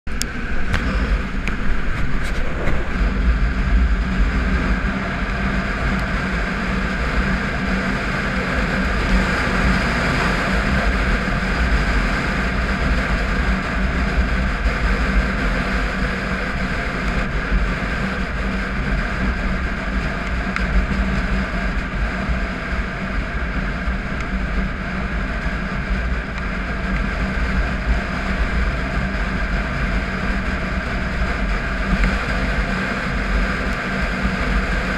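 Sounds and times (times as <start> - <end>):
motorcycle engine cruising: 0.0 - 34.9
wind rumbling on microphone: 0.0 - 34.9.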